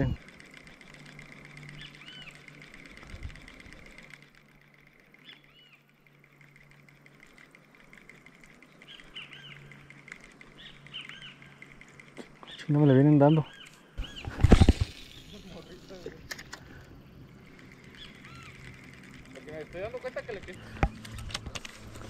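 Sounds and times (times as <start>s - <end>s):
birds chirping faintly: 0.0s - 22.0s.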